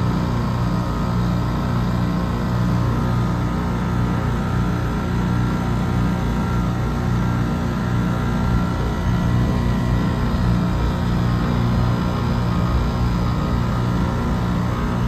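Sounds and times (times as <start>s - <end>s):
air conditioner compressor humming: 0.0s - 15.0s.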